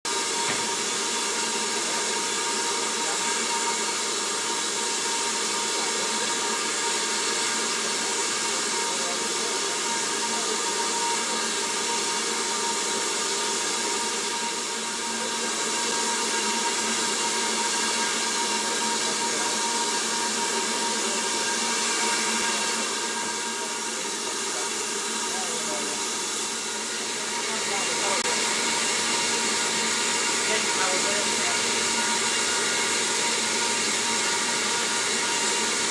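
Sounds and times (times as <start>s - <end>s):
steam hissing with whistling tones: 0.1s - 35.9s.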